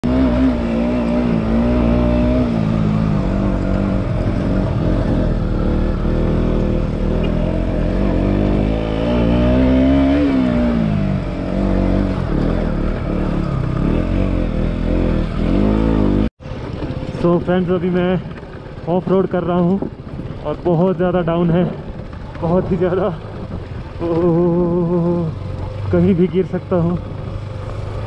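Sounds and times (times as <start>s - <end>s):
motorcycle engine under load: 0.0s - 28.0s.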